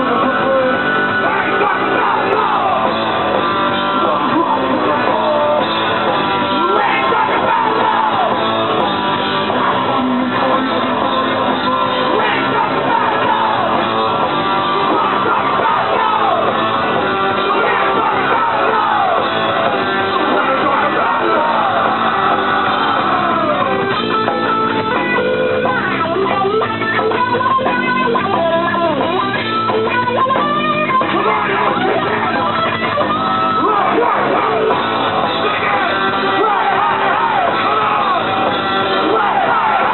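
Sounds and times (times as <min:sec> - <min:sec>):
punk rock band playing live: 0:00.0 - 0:39.9.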